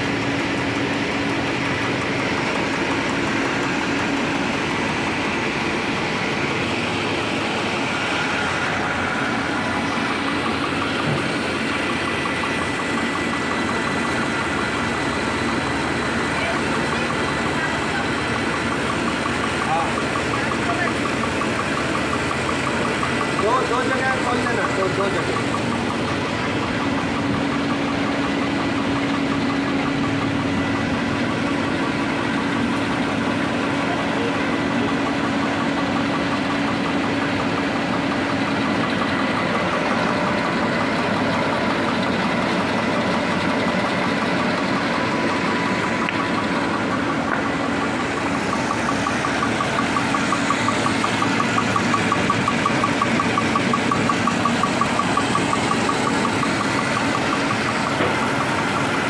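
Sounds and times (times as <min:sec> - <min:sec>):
fast even machine ticking: 0:00.0 - 0:59.0
machine motor hum: 0:00.0 - 0:59.0.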